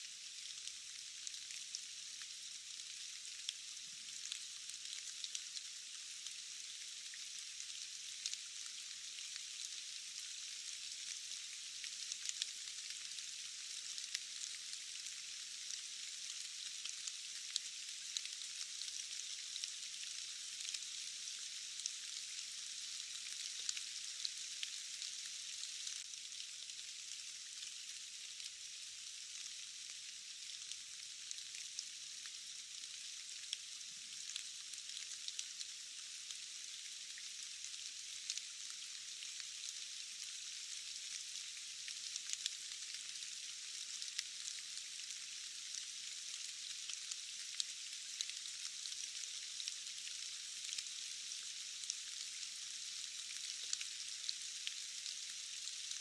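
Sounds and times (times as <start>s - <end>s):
steady rain falling: 0.3s - 56.0s.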